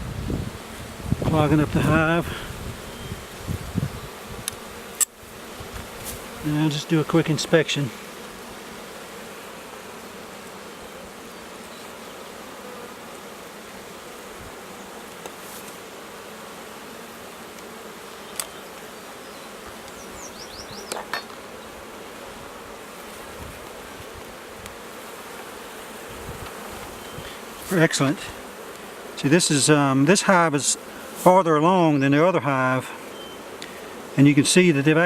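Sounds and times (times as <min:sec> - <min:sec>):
bees buzzing: 0:00.0 - 0:35.0.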